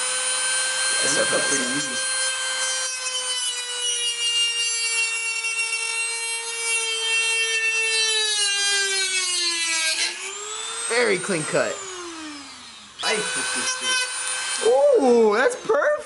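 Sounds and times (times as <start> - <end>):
rotary tool whining while cutting: 0.0 - 16.0.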